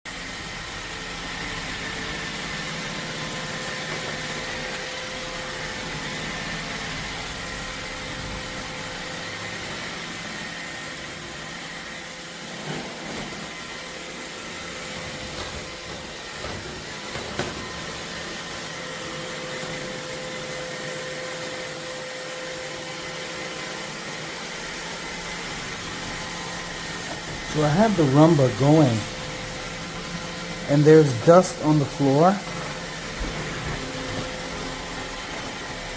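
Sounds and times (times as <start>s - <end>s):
robot vacuum running: 0.1s - 35.9s.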